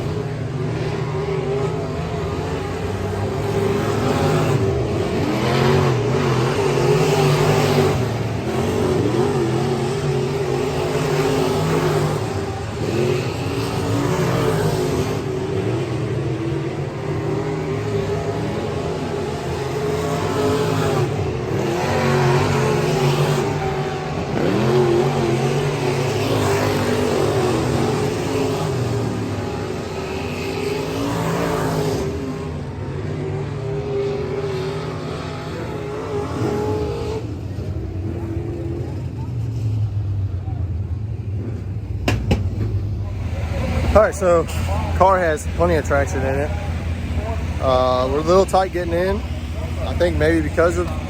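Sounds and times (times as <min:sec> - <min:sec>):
race car engine revving: 0:00.0 - 0:51.0.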